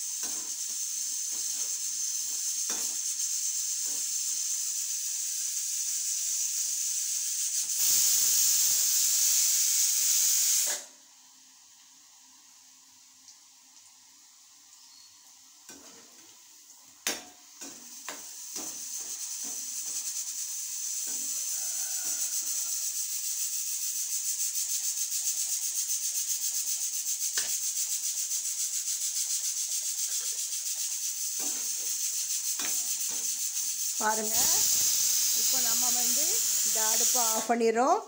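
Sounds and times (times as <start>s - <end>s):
oil sizzling: 0.0s - 38.0s.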